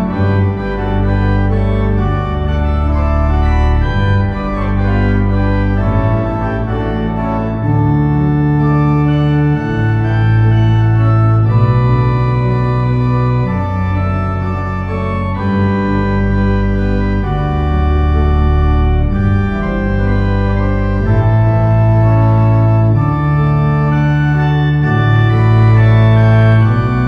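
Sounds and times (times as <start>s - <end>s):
church organ playing chords: 0.0s - 27.0s.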